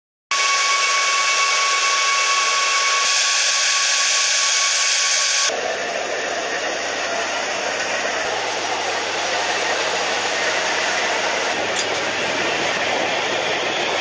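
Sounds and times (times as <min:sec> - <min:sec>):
dull engine noise: 0:00.3 - 0:14.0
jet engine rushing and whining: 0:00.3 - 0:14.0.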